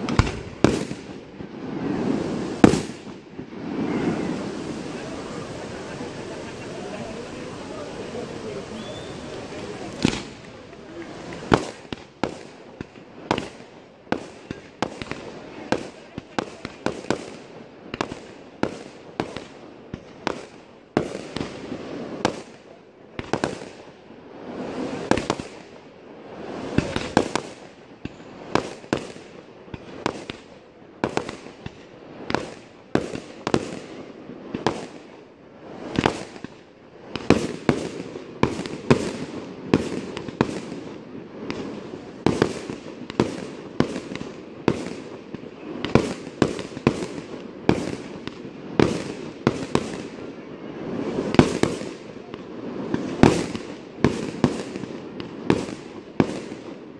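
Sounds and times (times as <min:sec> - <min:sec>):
fireworks bursting: 0:00.0 - 0:56.9.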